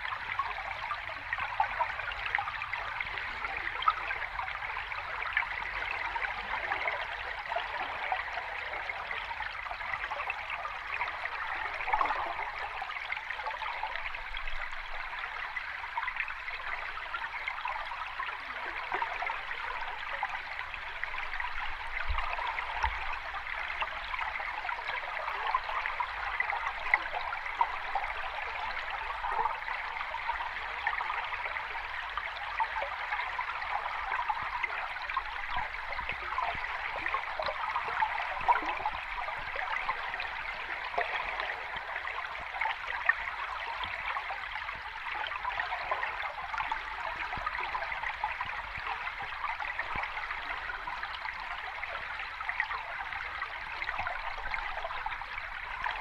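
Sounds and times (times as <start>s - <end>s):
water babbling in cascade: 0.0s - 56.0s.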